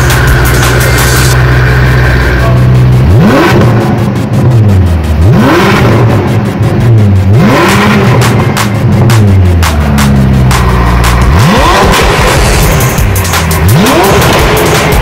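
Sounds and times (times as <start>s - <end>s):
car engine revving: 0.0s - 15.0s
exhaust crackles: 0.0s - 15.0s.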